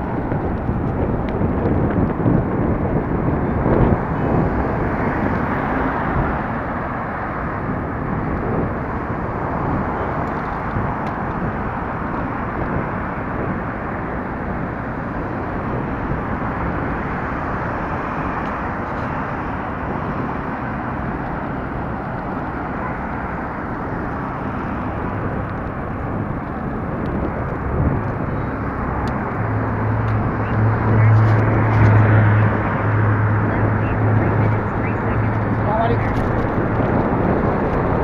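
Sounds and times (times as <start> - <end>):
road and traffic noise: 0.0 - 38.0
wind on microphone: 0.0 - 38.0.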